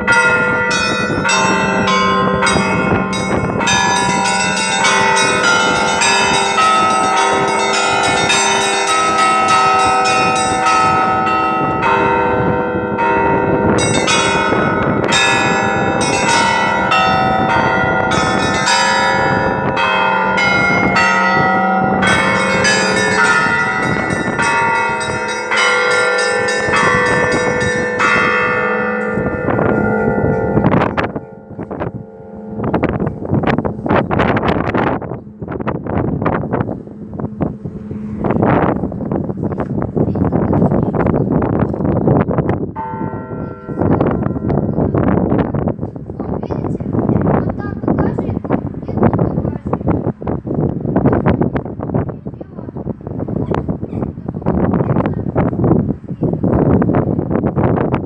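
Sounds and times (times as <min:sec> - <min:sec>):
deep bell humming: 0:00.0 - 0:47.6
church bells pealing: 0:00.0 - 0:58.0.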